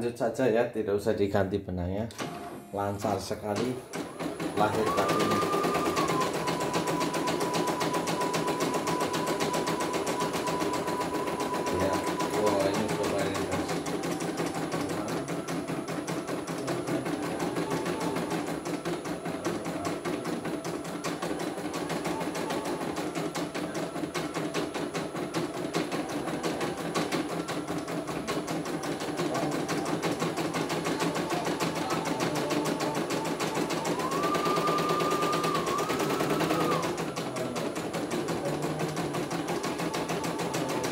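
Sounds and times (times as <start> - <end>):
embroidery machine needle rattling: 2.1 - 40.9.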